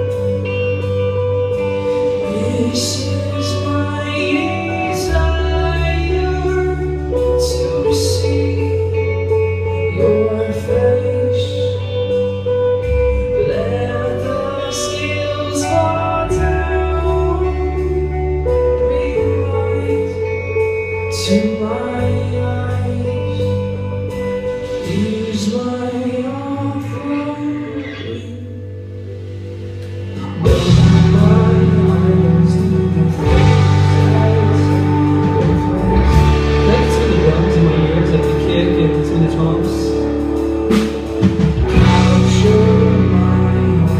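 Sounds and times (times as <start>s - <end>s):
held chords: 0.0s - 43.9s
person singing: 0.0s - 43.9s
steady bass line: 0.0s - 43.9s.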